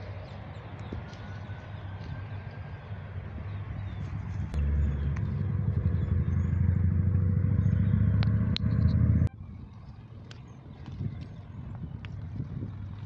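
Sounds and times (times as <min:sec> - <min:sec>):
engine rumbling: 0:00.0 - 0:13.0
outdoor background noise: 0:00.0 - 0:13.0.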